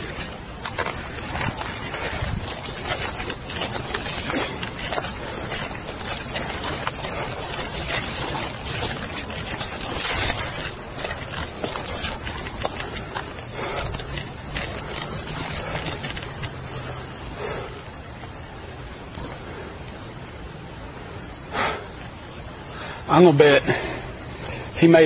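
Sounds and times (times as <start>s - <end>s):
footsteps crunching dry leaves: 0.0s - 20.1s.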